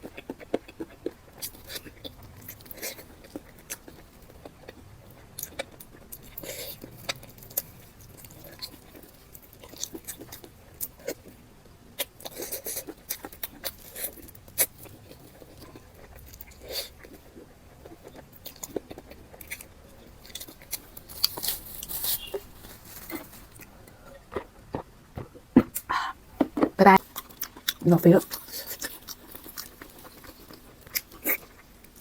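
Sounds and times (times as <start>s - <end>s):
wet chewing: 0.0s - 11.4s, 12.0s - 32.0s.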